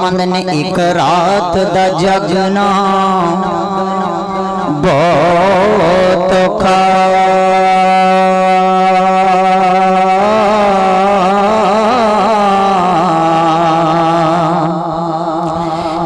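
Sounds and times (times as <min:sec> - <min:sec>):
low drone: 0:00.0 - 0:16.0
man singing long note: 0:00.0 - 0:16.0.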